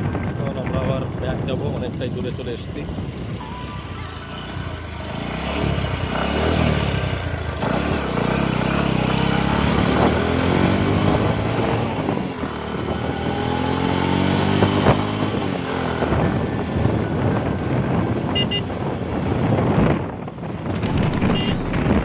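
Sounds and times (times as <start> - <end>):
motorcycle engine accelerating: 2.9 - 22.0.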